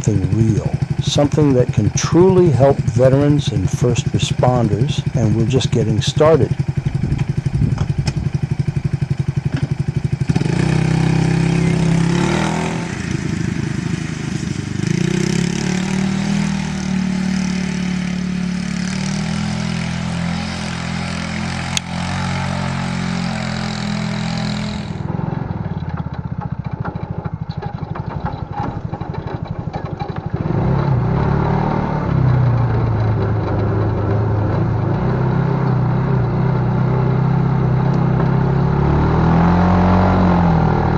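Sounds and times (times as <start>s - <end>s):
buggy engine revving: 0.0s - 40.9s.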